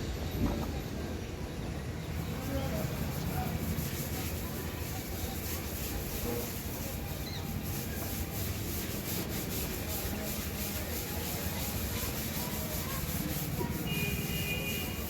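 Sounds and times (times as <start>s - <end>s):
scratchy rubbing on car panel: 2.2s - 15.0s.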